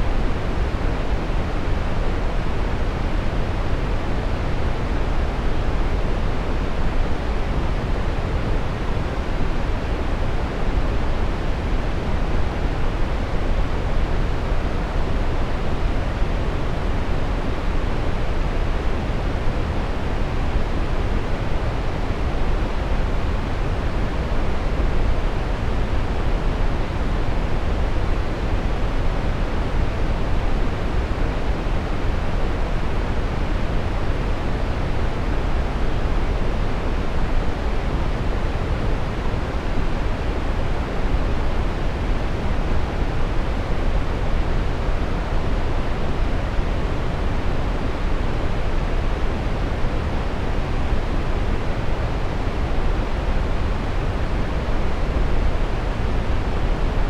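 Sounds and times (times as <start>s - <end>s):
brown noise: 0.0s - 57.0s.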